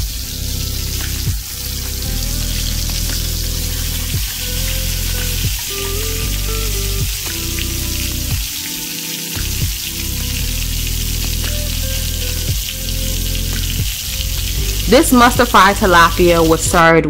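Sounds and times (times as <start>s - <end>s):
fish sizzling in hot oil: 0.0s - 16.8s
background music with low notes: 0.0s - 17.0s.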